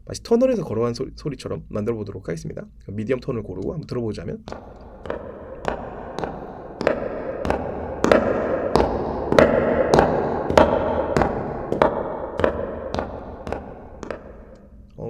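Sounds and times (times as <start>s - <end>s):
reverberant footsteps in tunnel: 2.9s - 15.0s.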